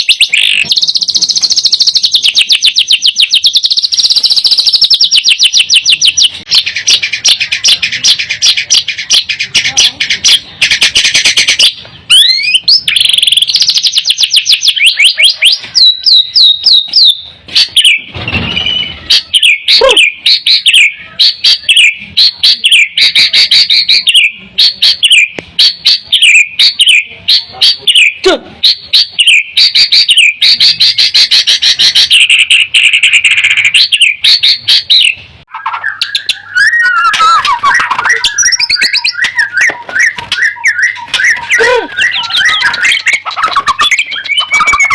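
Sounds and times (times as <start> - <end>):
bird singing whistled notes: 0.0 - 9.4, 10.2 - 27.1, 27.7 - 44.9.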